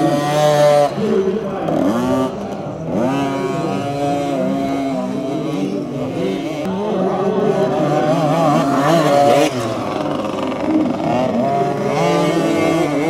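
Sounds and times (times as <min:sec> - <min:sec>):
two-stroke minibike engines revving: 0:00.0 - 0:13.0.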